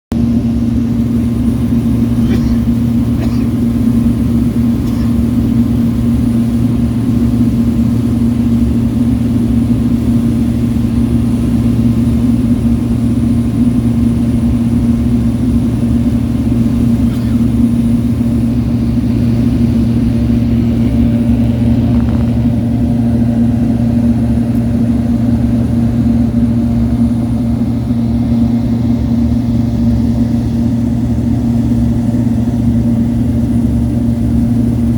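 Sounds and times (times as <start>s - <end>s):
turboprop engine droning: 0.1s - 34.9s.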